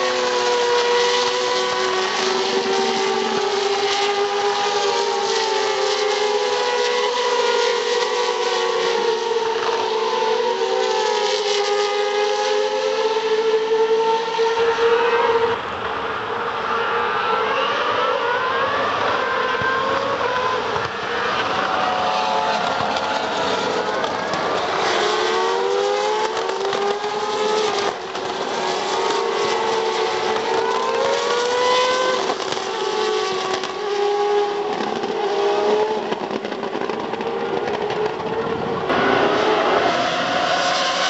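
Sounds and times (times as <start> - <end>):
racing car engines revving past: 0.0 - 41.0.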